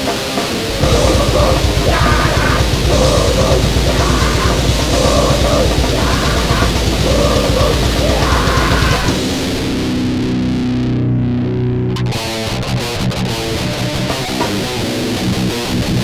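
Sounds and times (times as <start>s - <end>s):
distorted heavy metal guitar: 0.0s - 16.0s.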